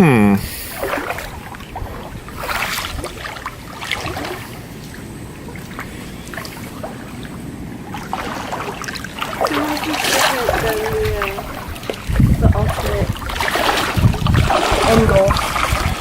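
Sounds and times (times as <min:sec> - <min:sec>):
faint water moving: 0:00.4 - 0:16.0
wind buffeting microphone: 0:00.4 - 0:16.0.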